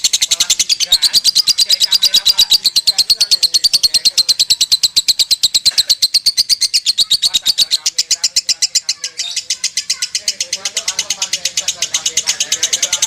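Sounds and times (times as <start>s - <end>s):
lovebird chattering: 0.0s - 13.0s.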